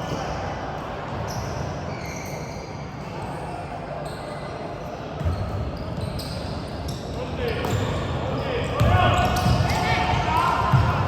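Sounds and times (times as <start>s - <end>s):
game noise in large hall: 0.0s - 11.0s.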